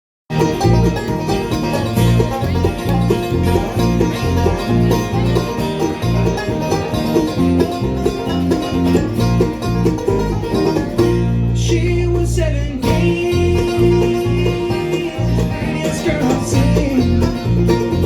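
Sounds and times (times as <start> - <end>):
live country band instrumental: 0.3 - 18.0.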